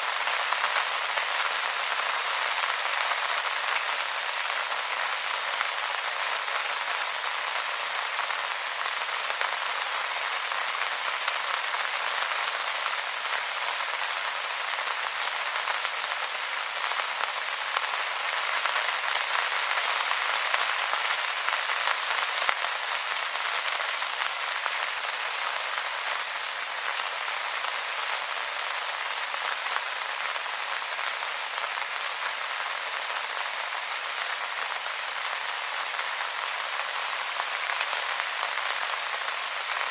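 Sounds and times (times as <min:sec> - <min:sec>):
rain on wet leaves: 0:00.0 - 0:39.9.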